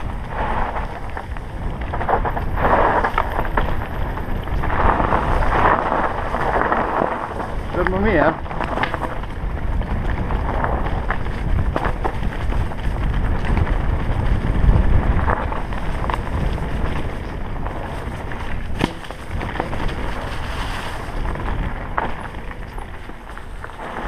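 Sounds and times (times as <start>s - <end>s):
bike rattling and knocking: 0.0s - 24.0s
tyres rolling over leaves and stones: 0.0s - 24.0s
wind buffeting microphone: 0.0s - 24.0s.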